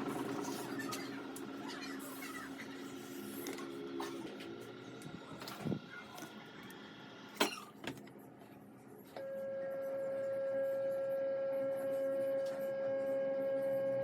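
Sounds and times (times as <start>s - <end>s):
washing machine steady hum: 0.0s - 14.0s.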